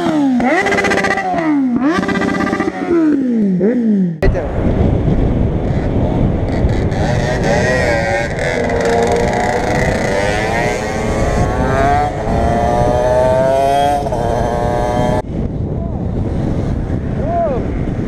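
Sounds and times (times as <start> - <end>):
motorcycle engine accelerating: 0.0 - 15.4
heavy wind rush: 0.0 - 18.0.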